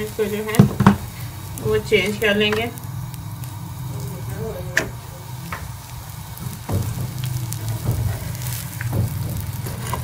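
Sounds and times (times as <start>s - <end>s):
low steady hum: 0.0s - 9.9s
flatbread sizzling in ghee: 0.0s - 10.0s.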